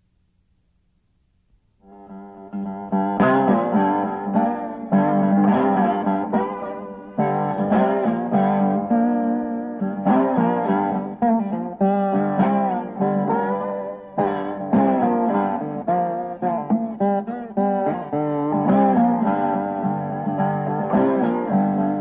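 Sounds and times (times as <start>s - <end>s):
plucked guitar notes: 1.8s - 22.0s.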